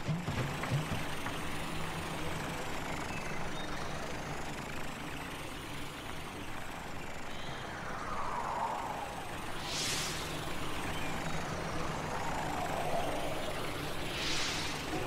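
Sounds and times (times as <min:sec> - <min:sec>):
road noise: 0:00.2 - 0:15.0.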